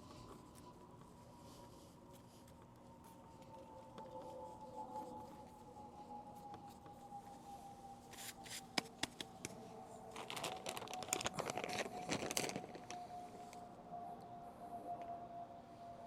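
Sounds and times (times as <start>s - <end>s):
rustling and crinkling: 0.0s - 13.6s
faint steady tone: 0.0s - 16.0s.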